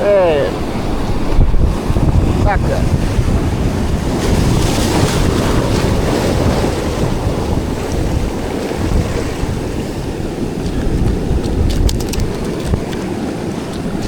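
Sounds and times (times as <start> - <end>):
surf washing: 0.0 - 14.0
wind buffeting microphone: 0.0 - 14.0.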